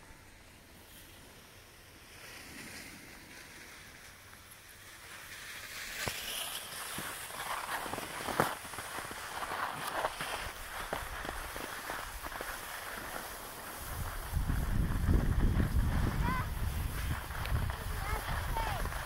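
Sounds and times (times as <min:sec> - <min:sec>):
skis scraping over snow: 0:00.8 - 0:19.0.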